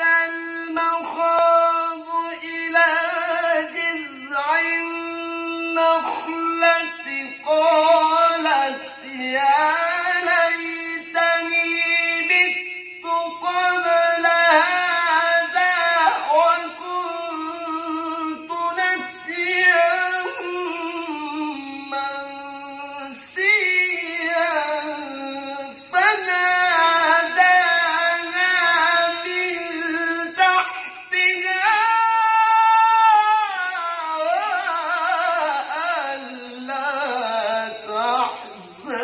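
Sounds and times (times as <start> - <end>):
man reciting melodically: 0.0 - 39.0.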